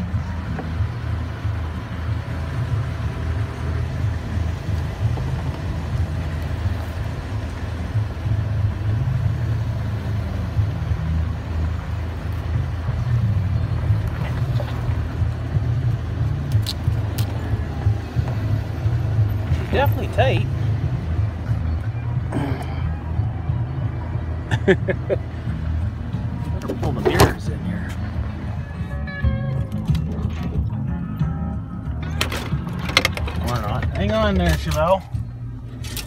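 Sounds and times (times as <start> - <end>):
truck engine rumbling: 0.0 - 36.0.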